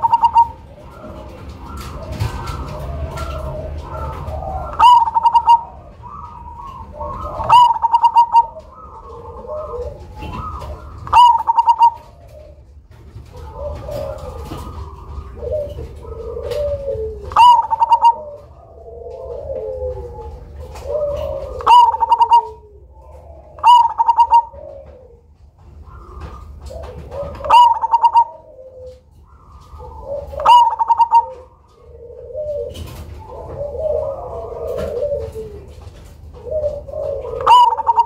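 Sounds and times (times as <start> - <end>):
dove cooing: 0.0 - 38.0.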